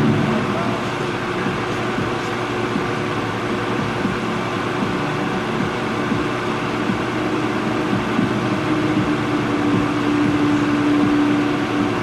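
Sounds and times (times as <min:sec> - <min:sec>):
electric blower whirring: 0:00.0 - 0:12.0
low steady hum: 0:00.0 - 0:12.0.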